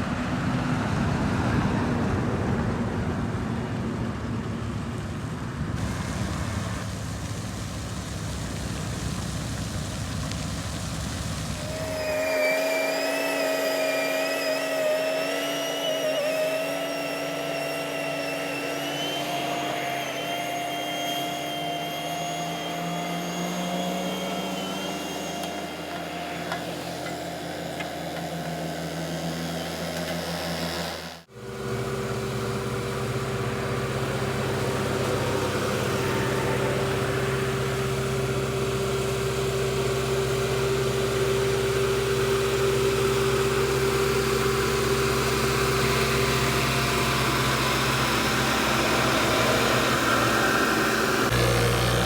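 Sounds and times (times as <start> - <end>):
diesel engine running: 0.0 - 52.0
droning engine hum: 0.0 - 52.0.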